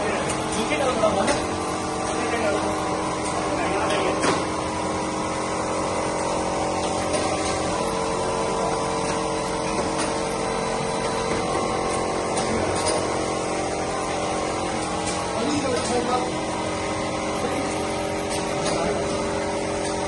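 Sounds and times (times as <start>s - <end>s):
machine motor hum and whine: 0.0s - 20.0s.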